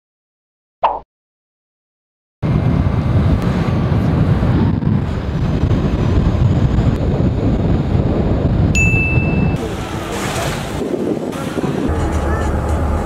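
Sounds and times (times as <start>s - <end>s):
wind buffeting microphone: 2.4s - 13.0s.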